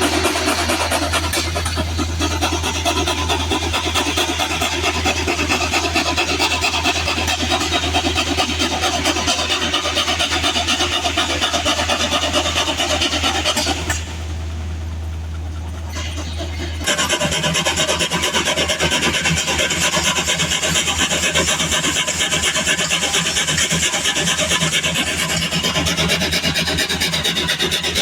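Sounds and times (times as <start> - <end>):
saw cutting through log: 0.0 - 14.4, 15.9 - 28.0
engine humming: 0.0 - 28.0.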